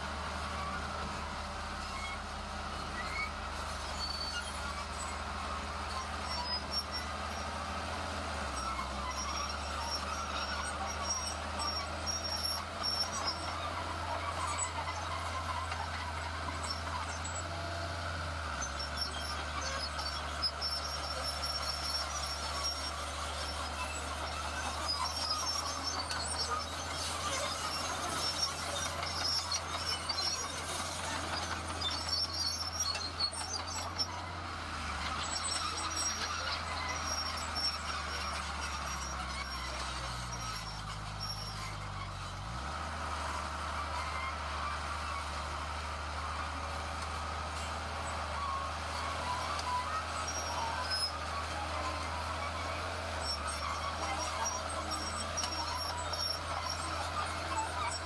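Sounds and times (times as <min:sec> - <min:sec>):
diesel construction machinery running: 0:00.0 - 0:58.0.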